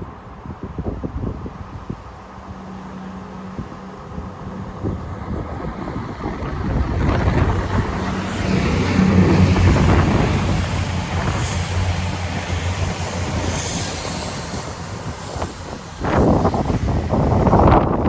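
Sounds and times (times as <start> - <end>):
diesel train engine hum: 0.0 - 18.0.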